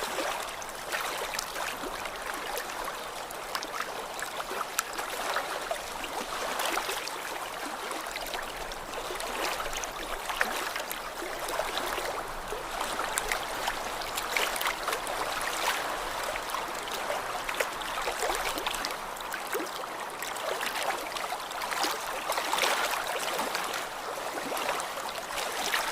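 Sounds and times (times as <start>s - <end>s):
small waves lapping at shore: 0.0s - 25.9s.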